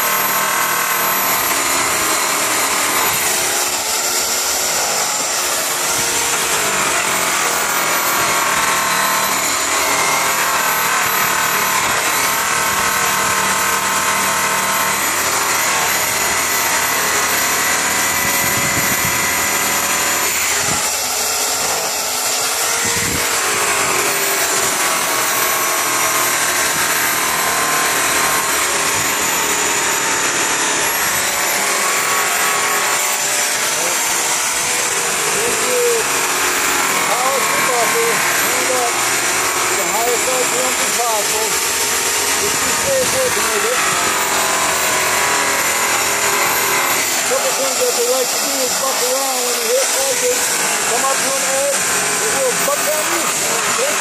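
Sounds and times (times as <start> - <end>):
buffer motor whine: 0.0 - 48.1.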